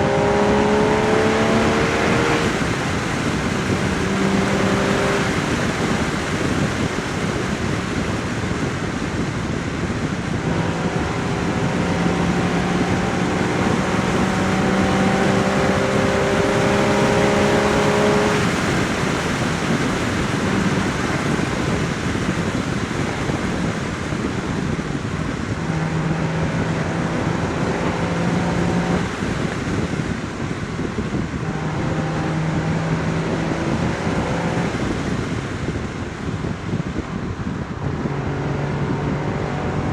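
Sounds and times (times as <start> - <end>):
car exhaust while driving: 0.0 - 39.9
heavy wind: 0.0 - 39.9
road rush: 0.0 - 39.9.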